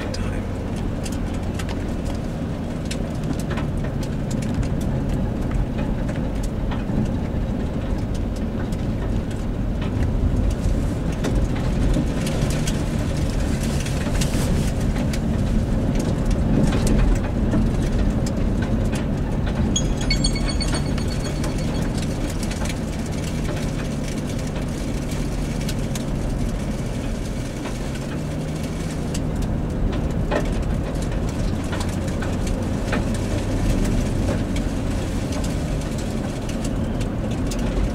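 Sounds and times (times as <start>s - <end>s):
vehicle engine and road noise: 0.0s - 37.9s.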